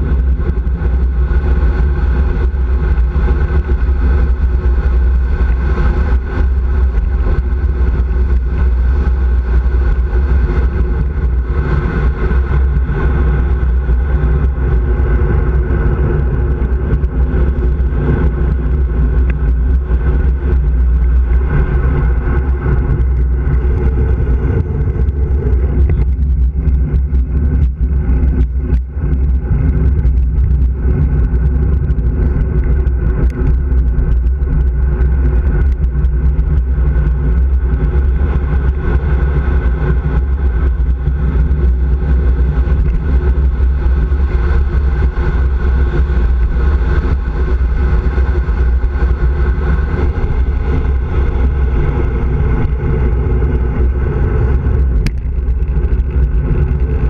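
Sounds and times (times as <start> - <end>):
bicycle tyres on asphalt: 0.0 - 57.0
wind rushing over microphone: 0.0 - 57.0.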